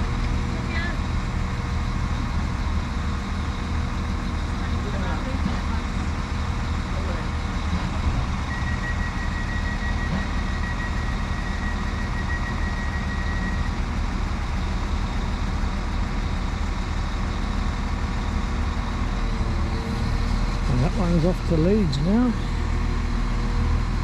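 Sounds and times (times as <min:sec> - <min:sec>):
diesel engines droning: 0:00.0 - 0:24.0.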